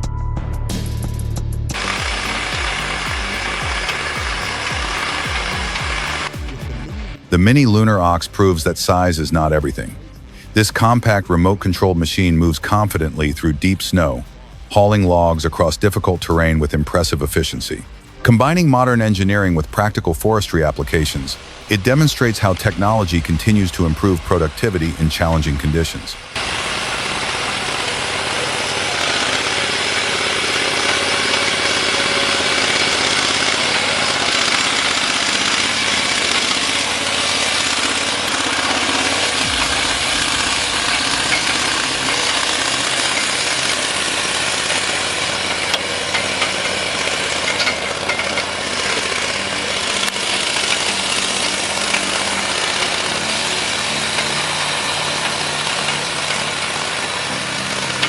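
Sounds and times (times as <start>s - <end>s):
small engine running: 1.7s - 58.0s.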